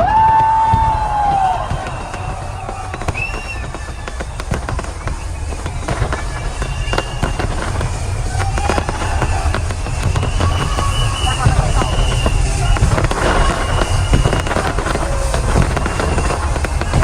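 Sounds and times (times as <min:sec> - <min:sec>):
firework whistles: 0:00.0 - 0:17.0
fireworks bangs and crackles: 0:00.0 - 0:17.0.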